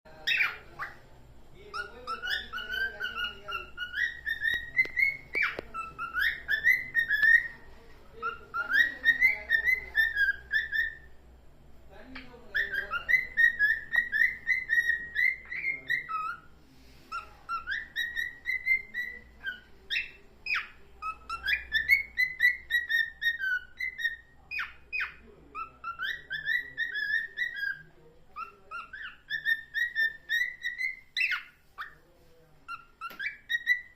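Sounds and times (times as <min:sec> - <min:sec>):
cockatiel whistling: 0:00.2 - 0:01.0, 0:01.7 - 0:11.1, 0:12.2 - 0:16.5, 0:17.1 - 0:32.0, 0:32.7 - 0:33.9.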